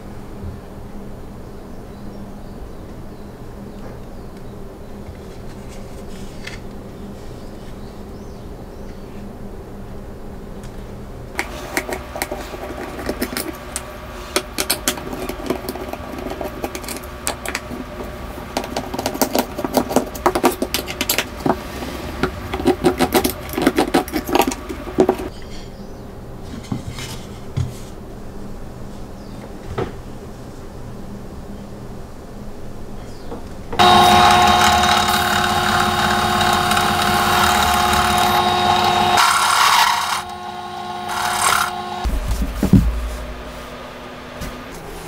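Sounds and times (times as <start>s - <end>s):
steady hum: 0.0s - 26.4s, 33.6s - 45.0s.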